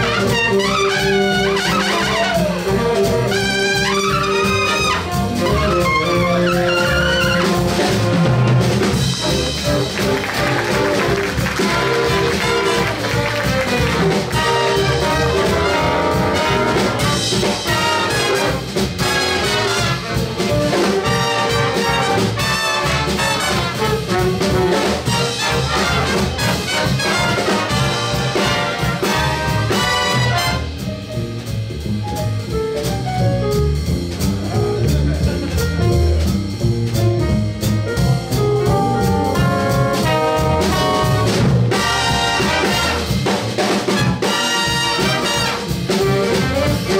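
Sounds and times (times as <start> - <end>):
jazz big band playing swing: 0.0 - 46.9.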